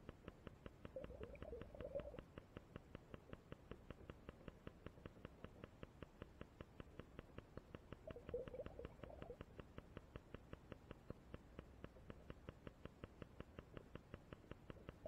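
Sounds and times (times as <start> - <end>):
faint even ticking: 0.0 - 15.0.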